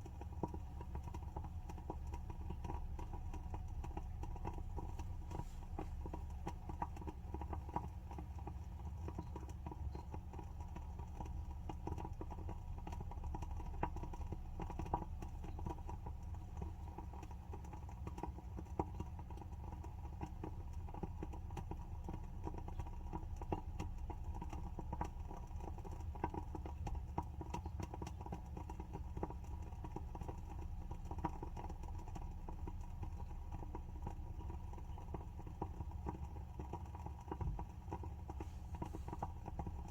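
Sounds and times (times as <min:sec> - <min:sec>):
steady low hum: 0:00.0 - 0:39.9
wooden candle wick crackling: 0:00.0 - 0:39.9.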